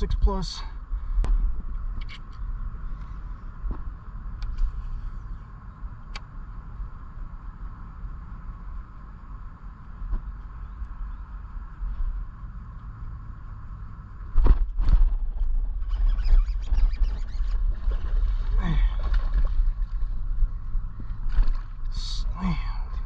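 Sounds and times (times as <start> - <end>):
boat engine rumble: 0.0 - 23.0
faint steady hum: 0.0 - 23.0.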